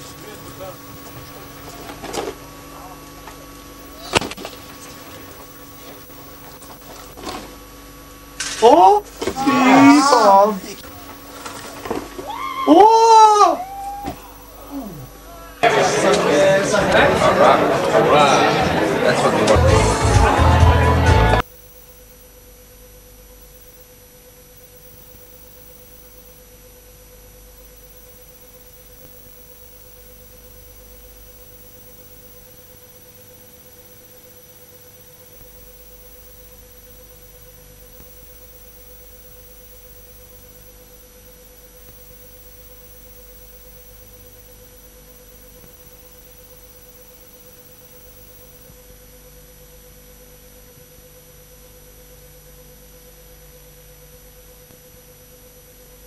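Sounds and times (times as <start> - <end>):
faint high whine: 0.0 - 18.6, 21.4 - 56.0
electrical hum: 0.0 - 56.0.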